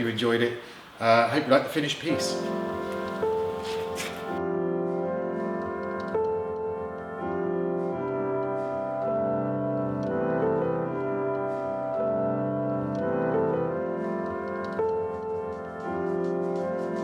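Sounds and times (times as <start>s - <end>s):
organ-like keyboard chords: 2.0s - 17.0s.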